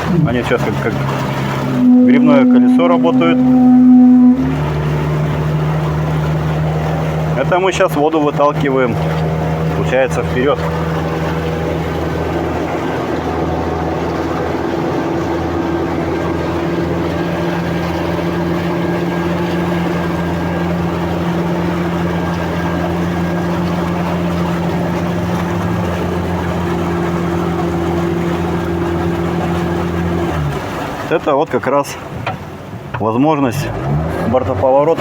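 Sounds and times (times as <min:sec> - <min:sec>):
vehicle engine running steadily: 0:00.0 - 0:31.1
tyres paddling water: 0:00.0 - 0:35.0.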